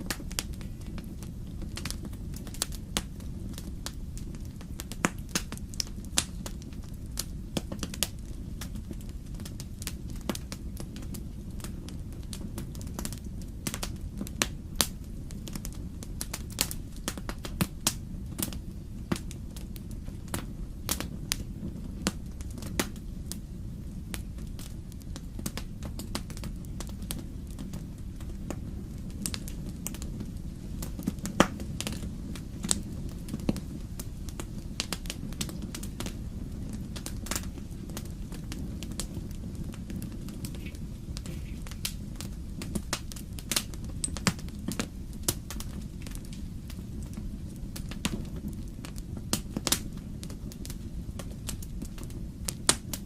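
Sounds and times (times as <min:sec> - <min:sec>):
burning logs popping: 0:00.0 - 0:53.0
wood fire crackling: 0:00.0 - 0:53.0.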